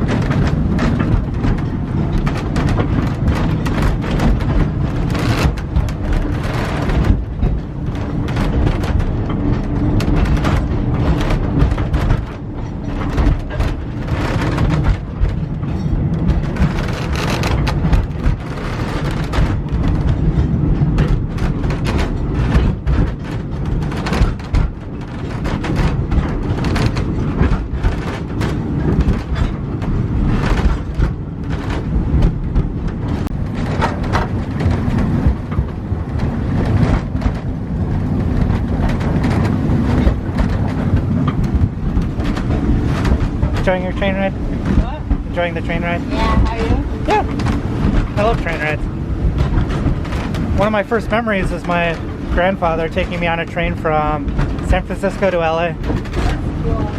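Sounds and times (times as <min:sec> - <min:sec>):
train car rumbling on track: 0:00.0 - 0:56.9
wheels clattering and knocking: 0:00.0 - 0:56.9.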